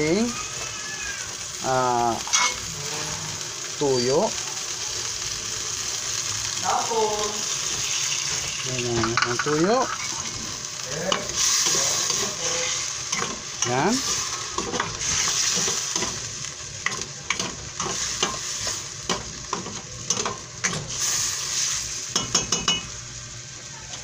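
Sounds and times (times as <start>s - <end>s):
liver sizzling in a pan: 0.0s - 24.0s.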